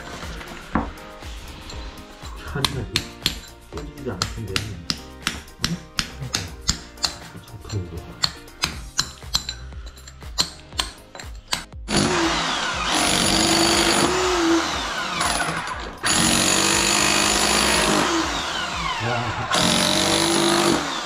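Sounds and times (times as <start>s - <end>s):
rotary hammer chiselling concrete: 2.4s - 18.4s, 19.5s - 21.0s.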